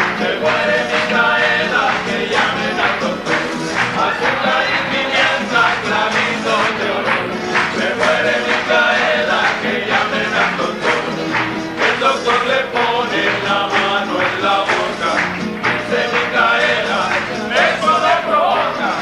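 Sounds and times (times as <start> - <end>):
rhythmic instrumental accompaniment: 0.0 - 19.0
voices singing together: 0.0 - 19.0.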